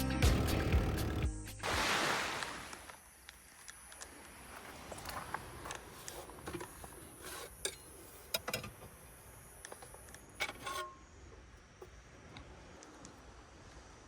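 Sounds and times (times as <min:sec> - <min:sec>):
faint steady background noise: 0:02.1 - 0:14.0.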